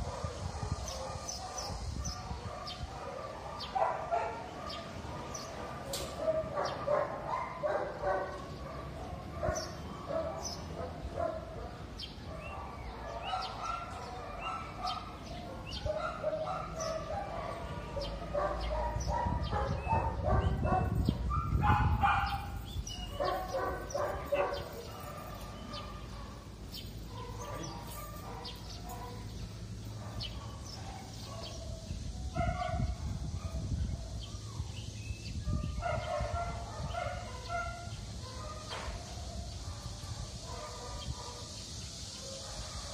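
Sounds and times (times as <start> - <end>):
dogs barking: 0.0 - 42.9.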